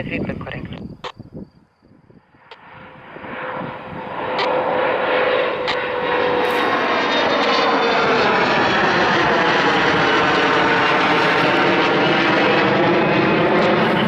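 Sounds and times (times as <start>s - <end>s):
jet engines passing overhead: 0.0s - 14.0s.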